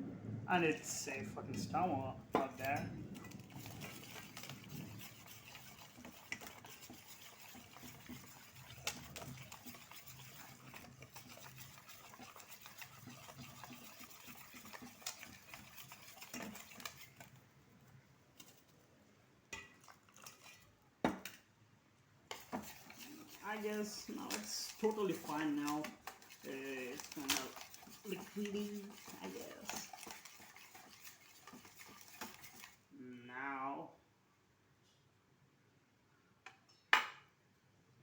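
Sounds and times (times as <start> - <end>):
wet batter stirring: 0.7 - 21.6, 22.2 - 32.9.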